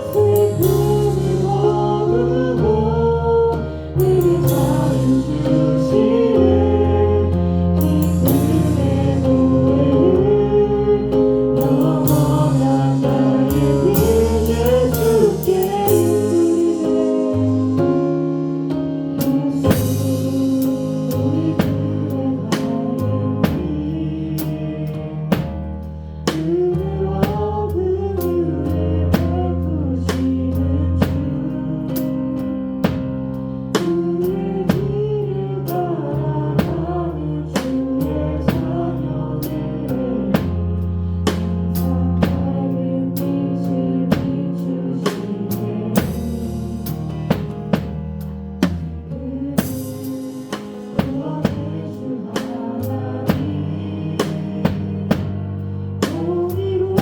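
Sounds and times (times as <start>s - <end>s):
praise band playing: 0.0s - 57.0s.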